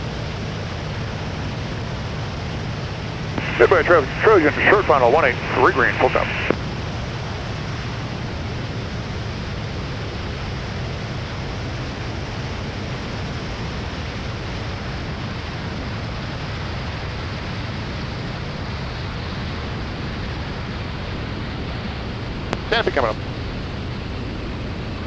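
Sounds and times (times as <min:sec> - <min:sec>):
aircraft engine and airflow drone: 0:00.0 - 0:25.0.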